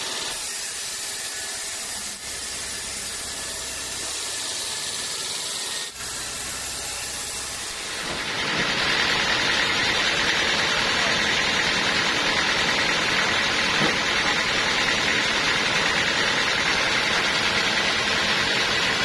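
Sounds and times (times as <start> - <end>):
sawmill machinery hissing: 0.0 - 19.0.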